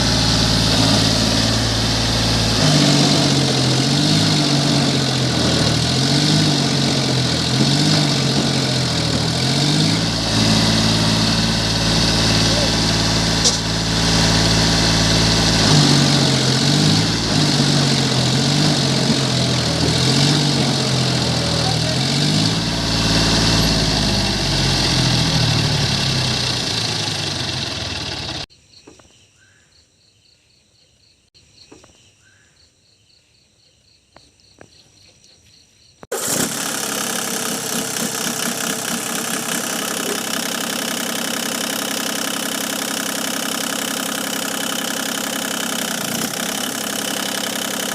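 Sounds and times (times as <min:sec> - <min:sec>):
tractor engine running: 0:00.0 - 0:28.5, 0:36.1 - 0:47.9.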